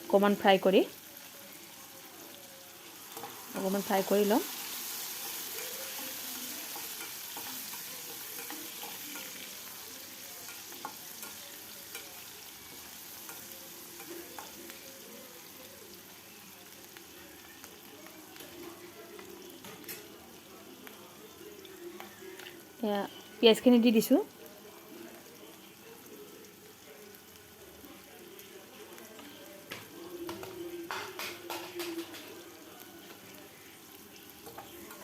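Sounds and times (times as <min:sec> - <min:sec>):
vegetables sizzling in hot oil: 0:00.0 - 0:35.0.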